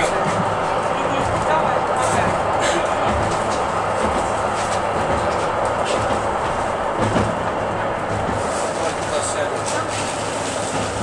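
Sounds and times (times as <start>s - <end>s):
streetcar wheels rumbling on rail: 0.0s - 11.0s.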